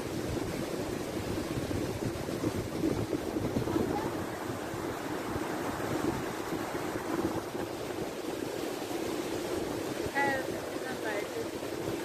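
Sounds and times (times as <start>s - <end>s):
white-water rapids rushing: 0.0s - 12.0s.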